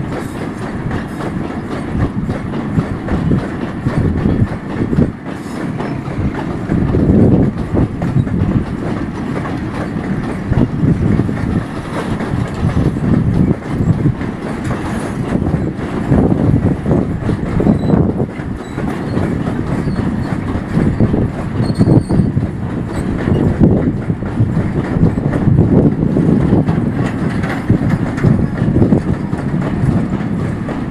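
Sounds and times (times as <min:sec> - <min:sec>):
wheels clattering over rail joints: 0:00.0 - 0:30.9.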